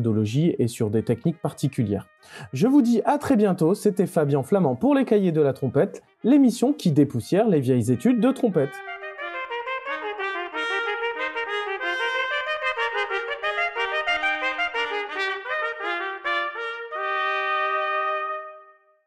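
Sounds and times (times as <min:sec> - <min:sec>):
trumpet playing: 0:01.2 - 0:19.0.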